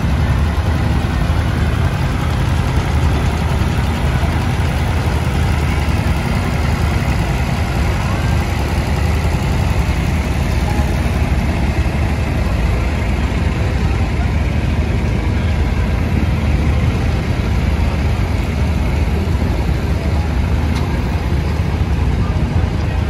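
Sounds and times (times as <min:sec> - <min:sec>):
tractor engines running: 0:00.0 - 0:23.0.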